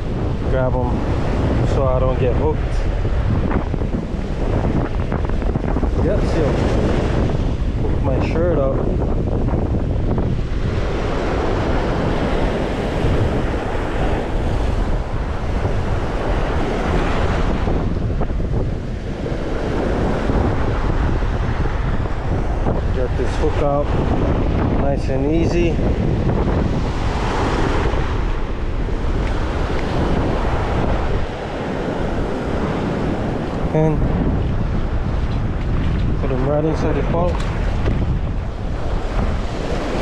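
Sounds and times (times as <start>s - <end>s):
surf washing over rocks: 0.0s - 40.0s
wind buffeting microphone: 0.0s - 40.0s.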